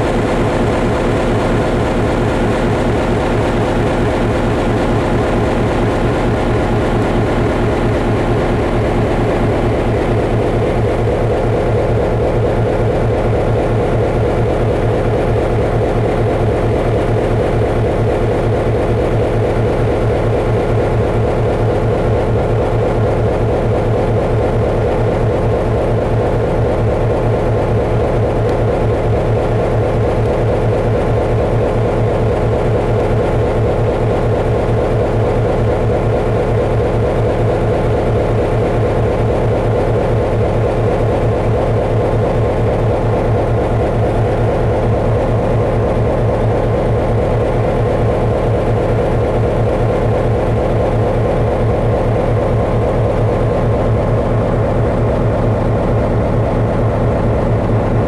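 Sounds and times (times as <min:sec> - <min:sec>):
heavy mechanical drone: 0:00.0 - 0:58.0.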